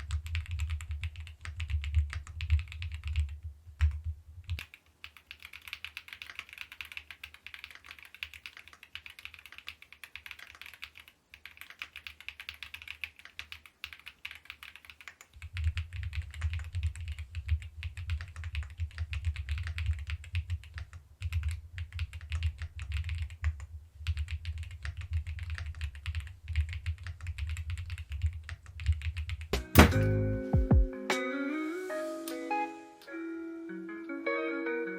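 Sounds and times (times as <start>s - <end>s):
mechanical keyboard typing: 0.0s - 29.6s.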